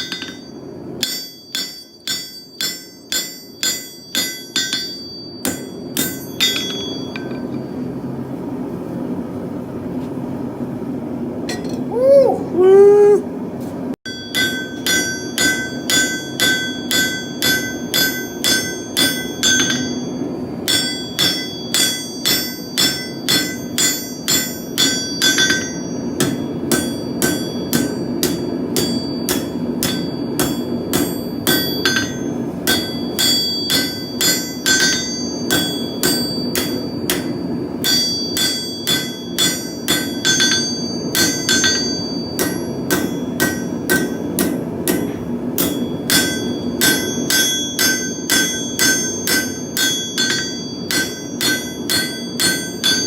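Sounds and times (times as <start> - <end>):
hammer striking steel on anvil: 0.0 - 7.8, 11.5 - 11.9, 14.1 - 53.0.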